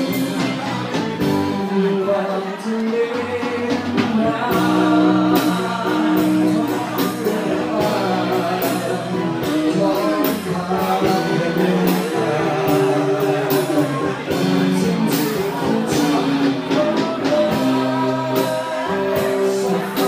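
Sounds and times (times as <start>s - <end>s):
drums steady beat: 0.0s - 20.0s
live band playing: 0.0s - 20.0s
person singing: 0.0s - 20.0s.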